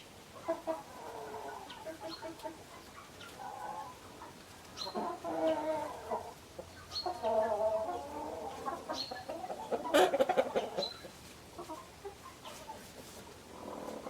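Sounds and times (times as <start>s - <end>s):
chickens clucking and squawking: 0.0s - 14.0s.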